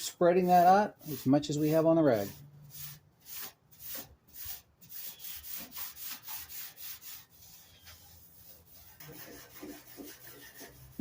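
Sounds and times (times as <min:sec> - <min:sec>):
rag wiping over metal: 0:00.0 - 0:11.0.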